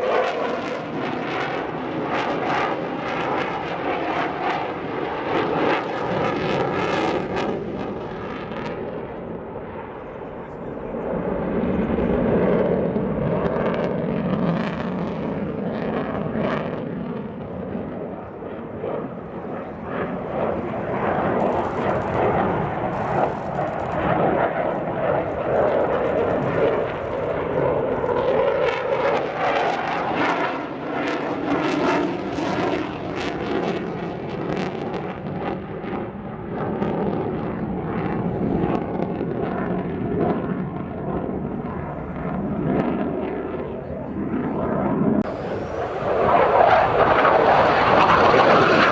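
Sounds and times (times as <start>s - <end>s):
fighter jet engine rush: 0.0s - 48.9s.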